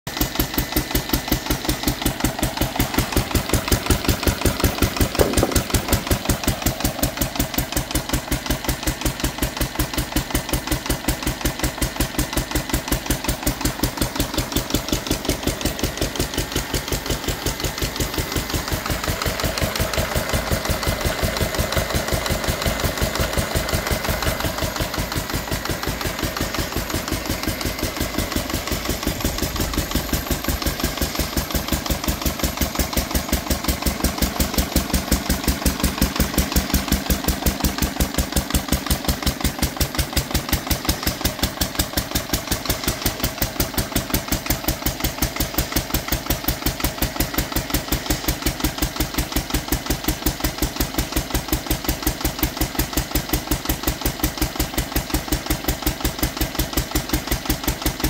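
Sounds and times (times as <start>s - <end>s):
stationary engine running: 0.1s - 58.0s.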